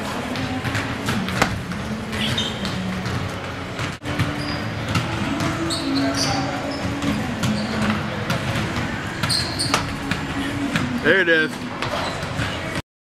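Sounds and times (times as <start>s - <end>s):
faint background music: 0.0s - 12.8s
shoe soles squeaking: 1.0s - 12.8s.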